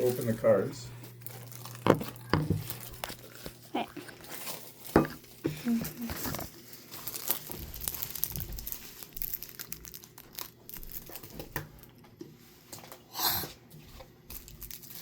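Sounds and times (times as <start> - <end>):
packaging crinkling and tearing: 0.0 - 12.0, 14.3 - 15.0.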